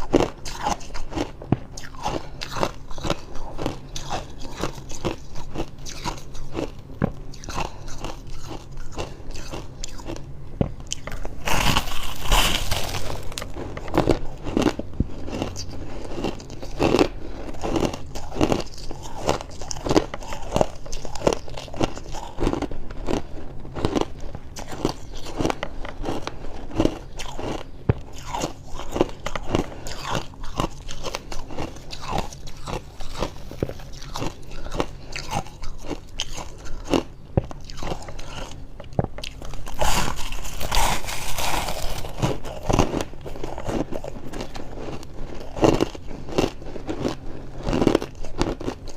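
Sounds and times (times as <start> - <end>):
crunching and chewing frost: 0.0 - 48.9.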